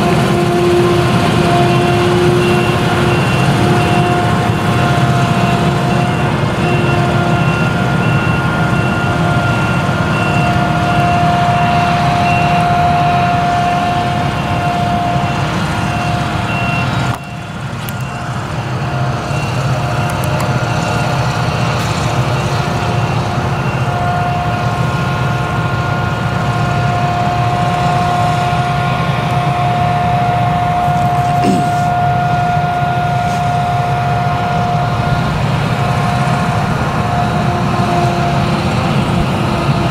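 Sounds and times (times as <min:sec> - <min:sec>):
constant high whine: 0:00.0 - 0:39.9
heavy harvester engine: 0:00.0 - 0:39.9.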